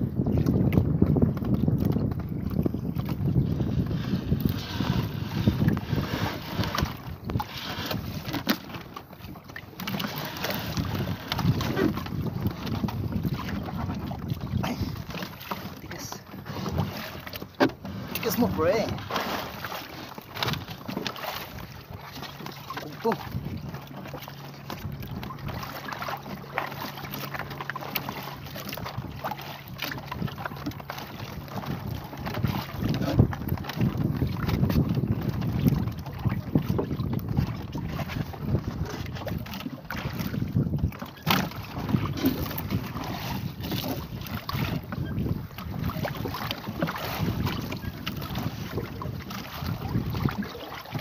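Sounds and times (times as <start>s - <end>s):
wind rumble on microphone: 0.0s - 51.0s
fishing net hauled over boat: 2.9s - 51.0s.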